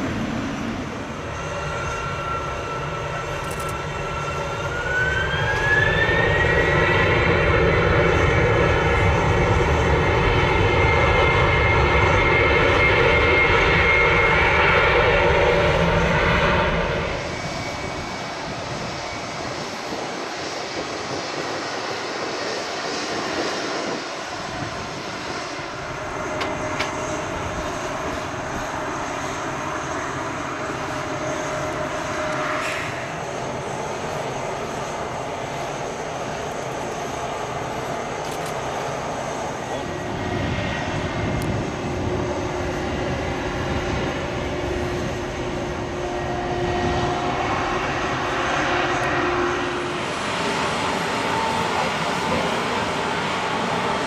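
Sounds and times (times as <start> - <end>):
jet engine roar and whine: 0.0 - 54.0.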